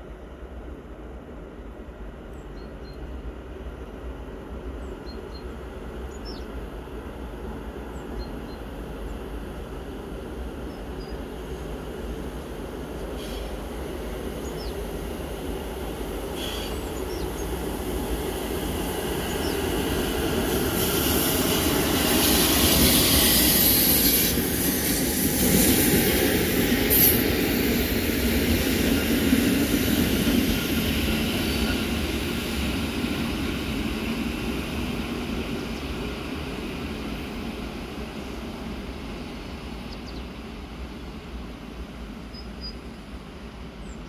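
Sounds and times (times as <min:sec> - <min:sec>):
train passing on rails: 0:00.0 - 0:44.0.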